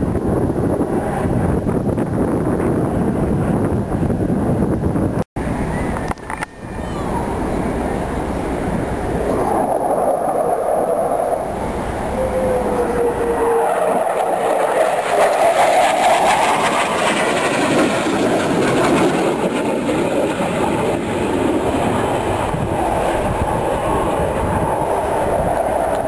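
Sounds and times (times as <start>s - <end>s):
jet engines flying past: 0.0s - 26.0s.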